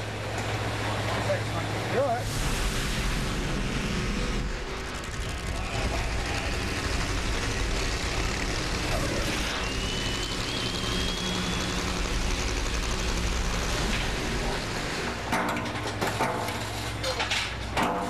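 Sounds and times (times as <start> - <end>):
drag-racing engines roaring: 0.0 - 17.8.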